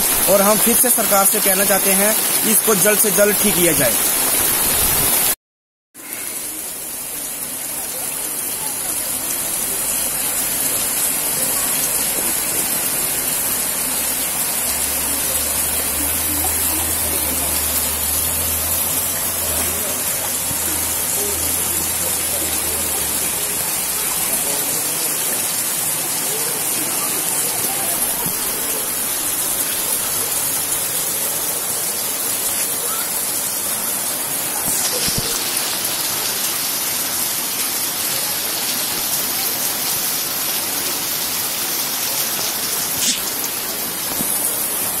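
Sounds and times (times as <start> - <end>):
rain and water running over road: 0.0 - 5.4, 6.0 - 45.0.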